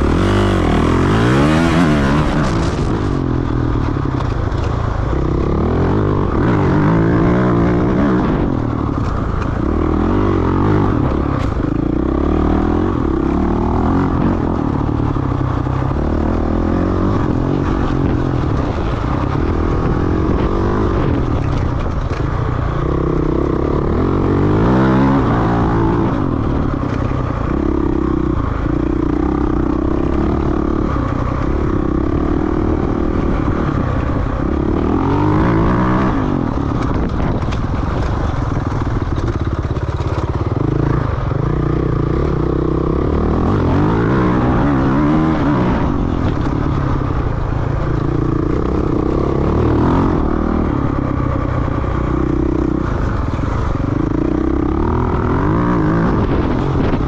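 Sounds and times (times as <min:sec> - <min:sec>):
bike rattling over rough ground: 0:00.0 - 0:57.0
dirt bike engine revving: 0:00.0 - 0:57.0.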